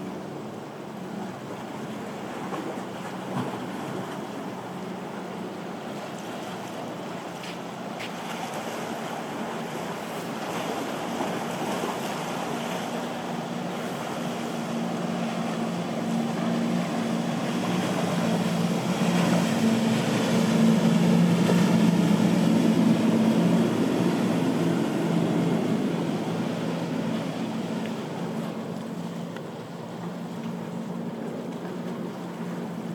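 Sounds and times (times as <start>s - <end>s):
powerboat engines passing: 0.0s - 32.9s
surf: 0.0s - 32.9s
wind: 0.0s - 32.9s.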